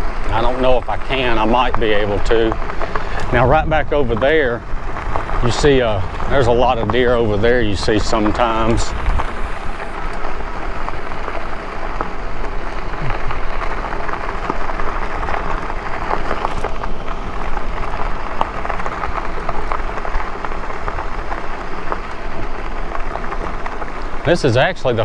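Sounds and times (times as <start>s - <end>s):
bike tyres crunching over rocks: 0.0s - 25.0s.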